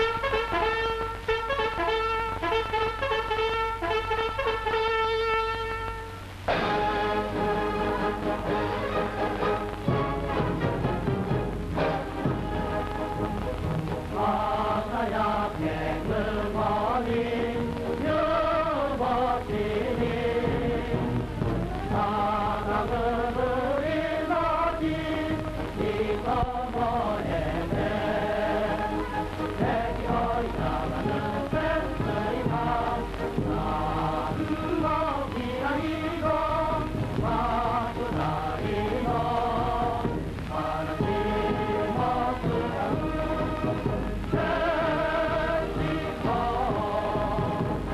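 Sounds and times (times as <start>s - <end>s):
voices singing in unison: 5.4s - 47.9s.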